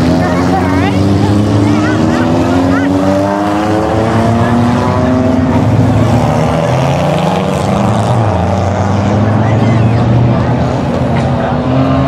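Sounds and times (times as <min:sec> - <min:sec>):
stock car engines running: 0:00.0 - 0:12.0.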